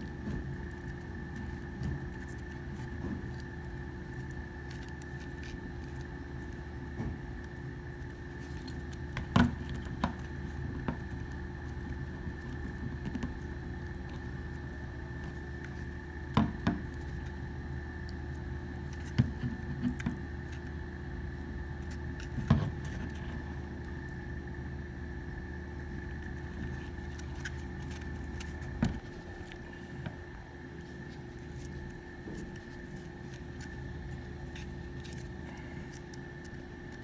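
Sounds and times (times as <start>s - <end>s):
background hum with high whine: 0.0s - 37.0s.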